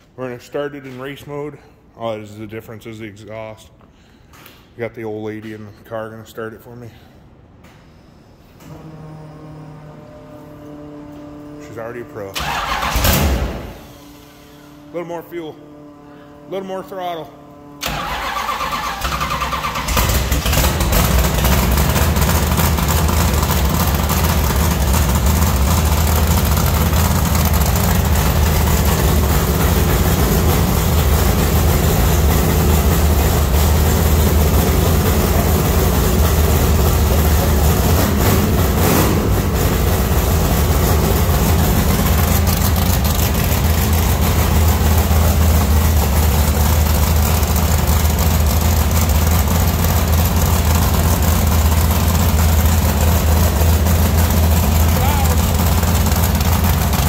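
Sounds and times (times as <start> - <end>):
car engine idling deep tone: 8.7 - 12.4, 13.0 - 18.0, 19.9 - 57.0.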